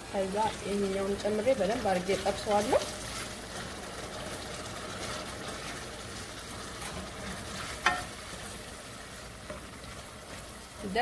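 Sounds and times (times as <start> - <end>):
vegetables sizzling in a pan: 0.0 - 11.0
wooden spoon scraping a pan: 0.4 - 11.0.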